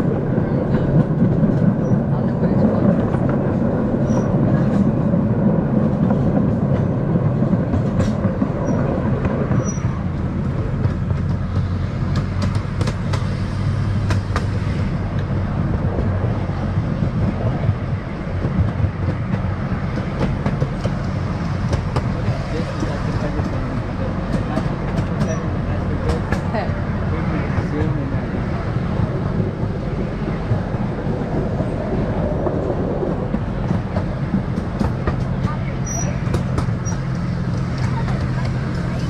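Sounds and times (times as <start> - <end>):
low rumble of wheels on rail: 0.0 - 39.0.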